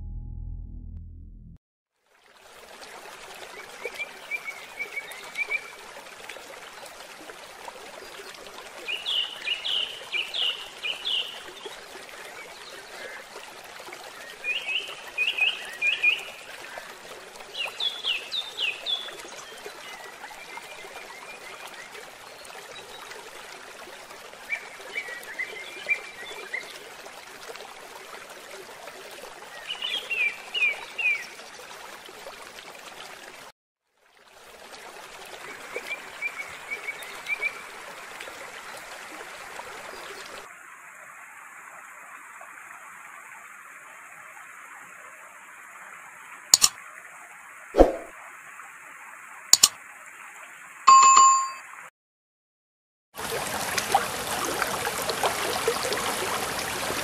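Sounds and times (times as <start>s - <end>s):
running water: 2.0s - 51.8s, 53.2s - 57.0s.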